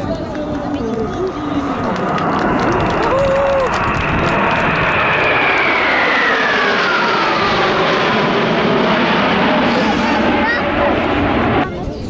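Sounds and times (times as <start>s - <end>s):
fighter jets flying past: 0.0s - 12.0s.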